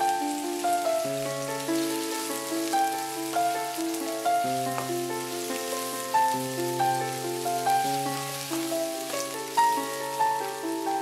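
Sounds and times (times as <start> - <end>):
gentle background music: 0.0 - 11.0
onions sizzling in oil: 0.0 - 11.0.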